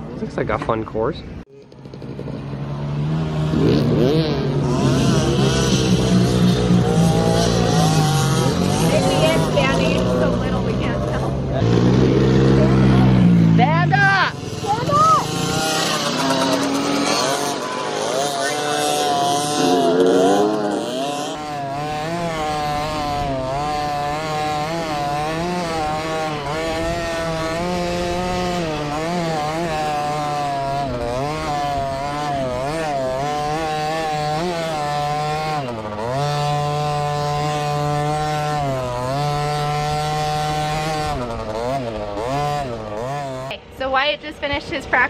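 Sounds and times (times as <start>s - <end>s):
dirt bike engine revving: 1.2s - 45.0s.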